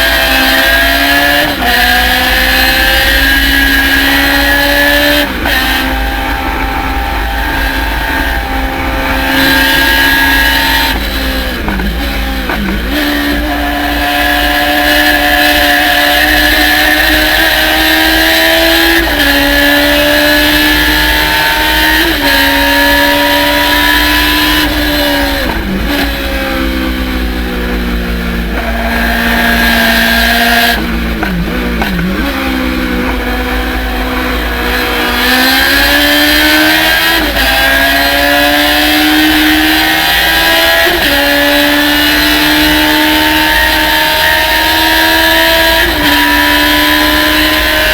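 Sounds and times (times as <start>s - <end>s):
race car engine accelerating: 0.0s - 47.9s.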